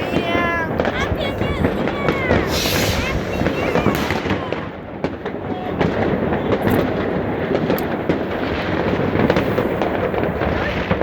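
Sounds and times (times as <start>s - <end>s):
distant explosions rumbling: 0.0s - 11.0s
firecrackers crackling: 0.0s - 11.0s.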